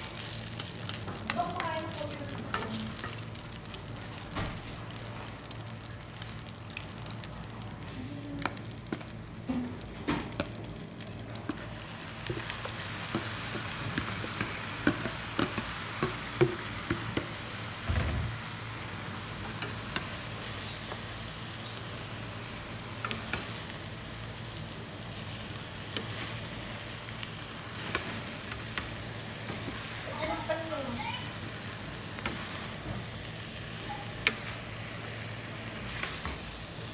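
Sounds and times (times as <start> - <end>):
noodles sizzling in a wok: 0.0 - 36.9.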